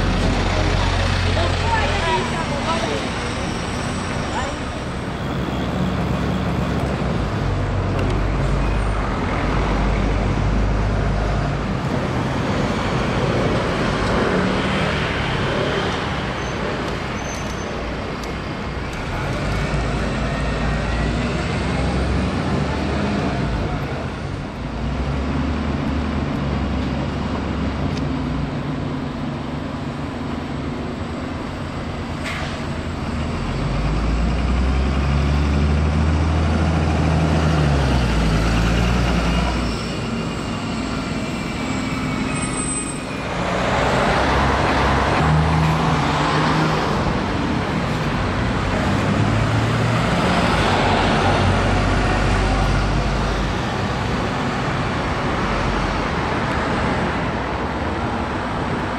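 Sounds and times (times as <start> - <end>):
bus driving past: 0.0 - 58.9
bus engine drone: 0.0 - 58.9.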